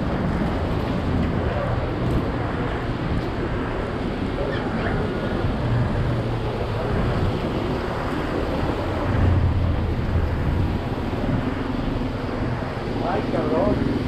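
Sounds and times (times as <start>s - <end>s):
traffic rumble on wet road: 0.0s - 14.0s
wind buffeting microphone: 0.0s - 14.0s.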